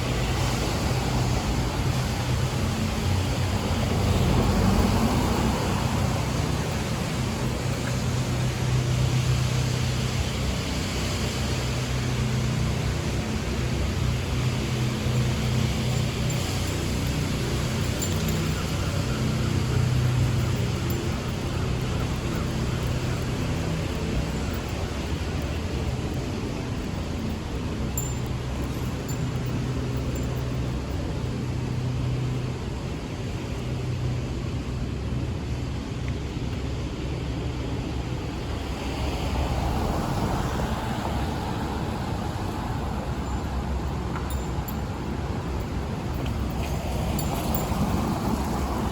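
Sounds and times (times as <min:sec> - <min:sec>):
vehicle engine humming: 0:00.0 - 0:36.0, 0:36.8 - 0:48.9
road noise: 0:00.0 - 0:48.9.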